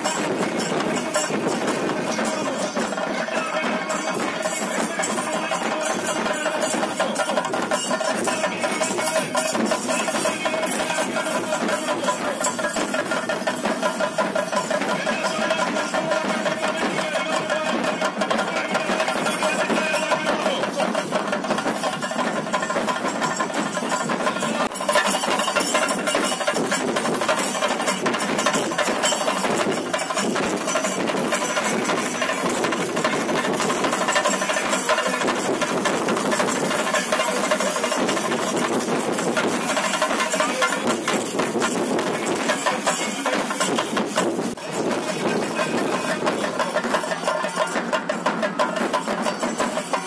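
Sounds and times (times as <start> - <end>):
fast drum roll: 0.0 - 50.0.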